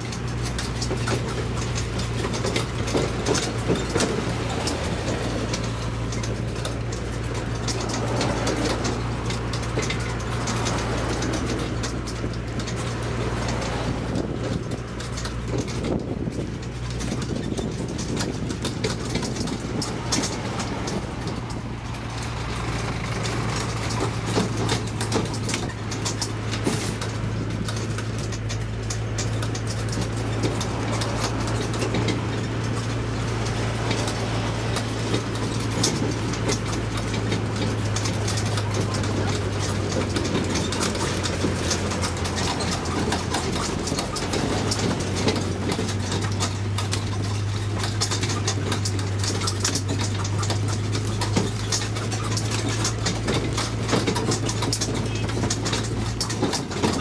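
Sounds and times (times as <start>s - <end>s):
carriage clicks and rattles: 0.0s - 57.0s
low engine drone: 0.0s - 57.0s
road noise: 0.0s - 57.0s.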